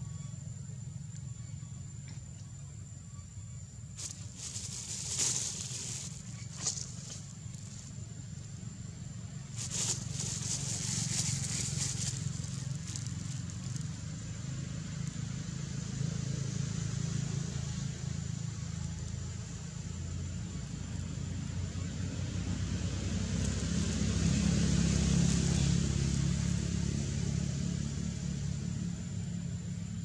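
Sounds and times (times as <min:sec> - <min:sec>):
vehicle engine rumbling: 0:00.8 - 0:30.0.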